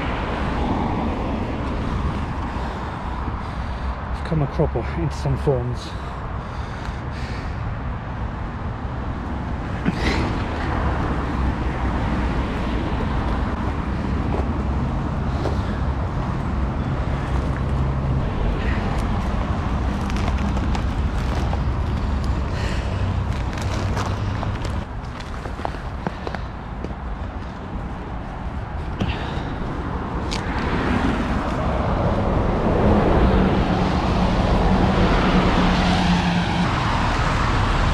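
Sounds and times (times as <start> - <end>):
engine hum: 0.0 - 37.9
tyre rush of passing vehicles: 0.0 - 37.9.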